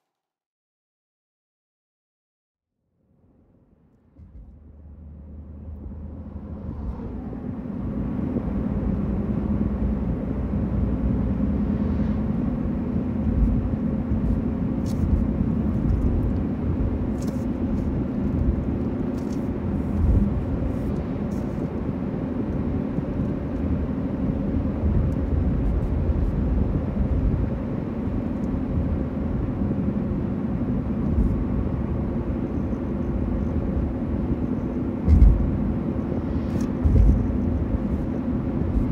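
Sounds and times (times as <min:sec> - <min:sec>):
car road and engine rumble: 0:03.0 - 0:38.9.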